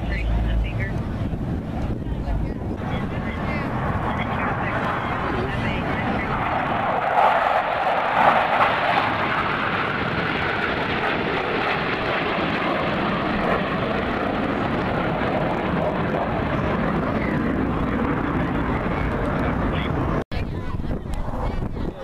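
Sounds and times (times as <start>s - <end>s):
airplane engine drone: 0.0s - 22.0s.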